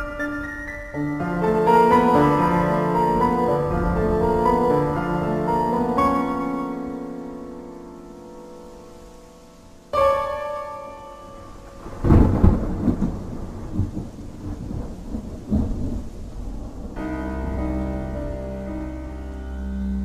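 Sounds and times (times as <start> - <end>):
music chords: 0.0 - 13.4, 16.9 - 20.0
rain: 0.0 - 20.0
thunder rumbling: 0.0 - 20.0.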